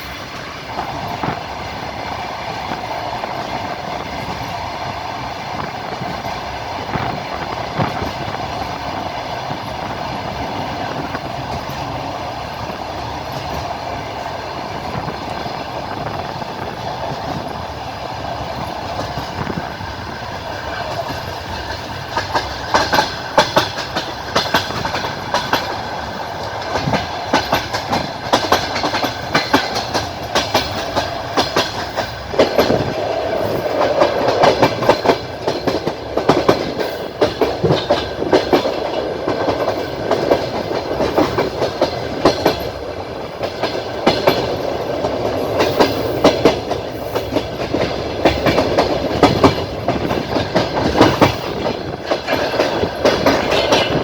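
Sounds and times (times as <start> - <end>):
train wheels clacking: 0.0 - 54.0.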